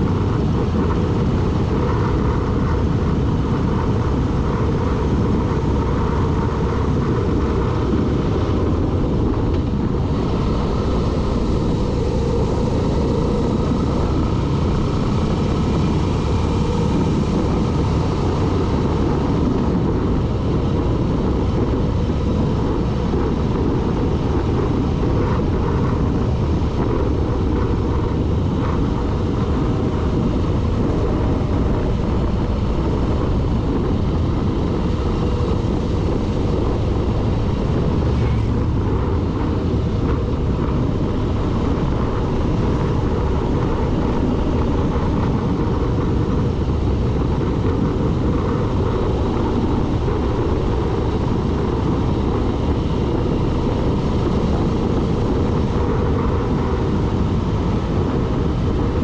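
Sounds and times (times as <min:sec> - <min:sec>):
vehicle engine and wind noise: 0:00.0 - 0:59.0.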